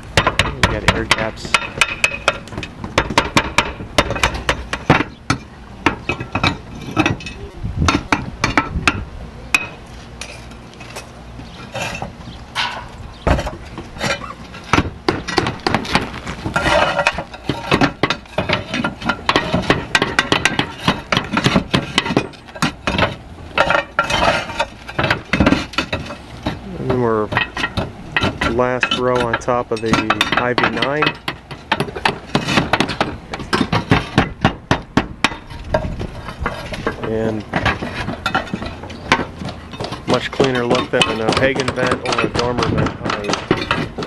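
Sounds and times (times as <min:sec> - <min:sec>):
roof tiles clinking together: 0:00.0 - 0:44.0.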